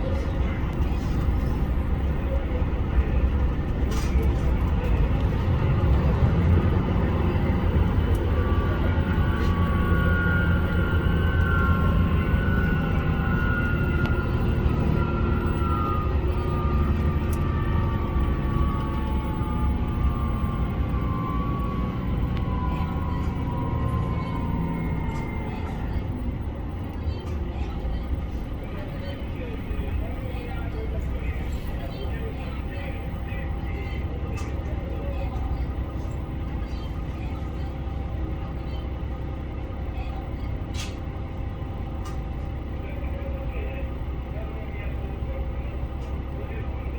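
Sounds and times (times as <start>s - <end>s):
diesel railcar rumble: 0.0s - 46.9s.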